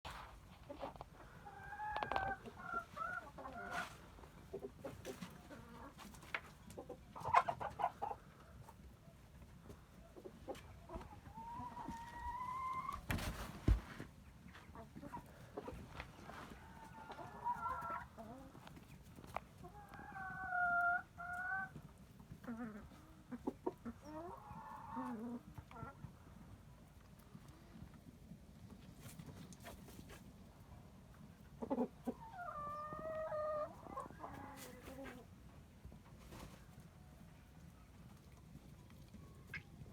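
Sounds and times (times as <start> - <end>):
chickens clucking and calling: 0.1 - 39.9.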